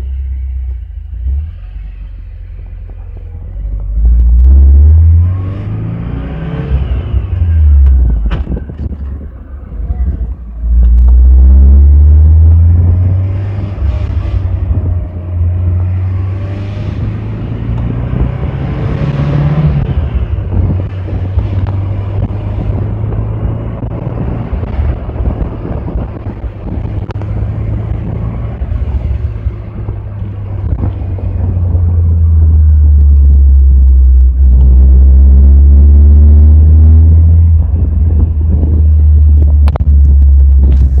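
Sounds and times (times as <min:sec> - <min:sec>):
car engine rumbling: 0:00.0 - 0:41.0.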